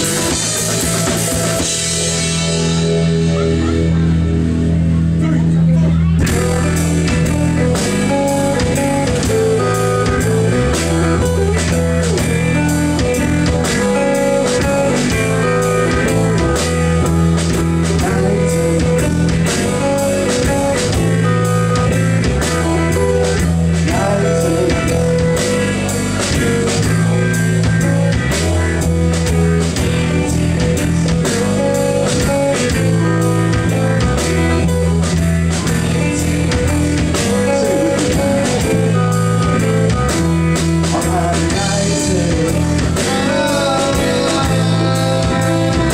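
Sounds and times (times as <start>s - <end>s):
drum kit beat: 0.0s - 45.9s
electric guitars: 0.0s - 45.9s.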